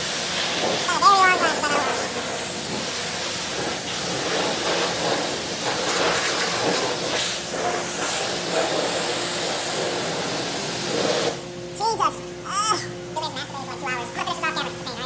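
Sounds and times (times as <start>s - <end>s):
pressure washer spraying water: 0.0s - 12.1s.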